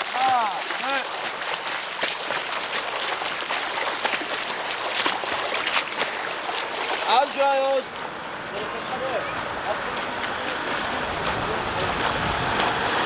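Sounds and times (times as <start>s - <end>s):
swim fins splashing water: 0.0s - 13.0s.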